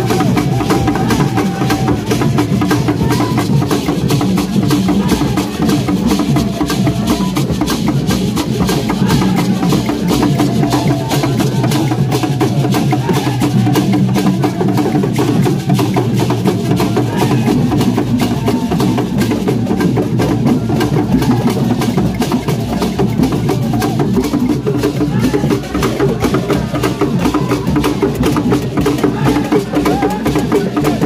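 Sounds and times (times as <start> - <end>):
drum ensemble dance rhythm: 0.0 - 31.0.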